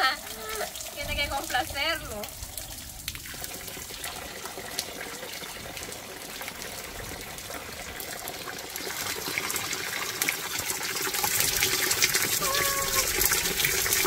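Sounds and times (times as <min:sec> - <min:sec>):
water trickling into plastic container: 0:00.0 - 0:14.0.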